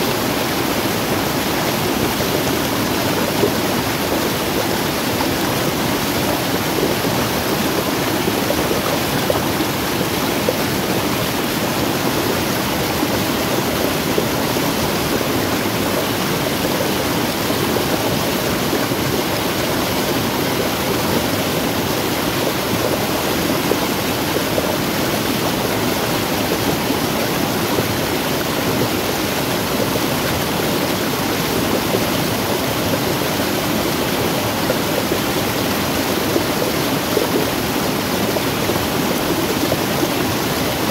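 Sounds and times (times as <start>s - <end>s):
stream rushing over small falls: 0.0s - 40.9s.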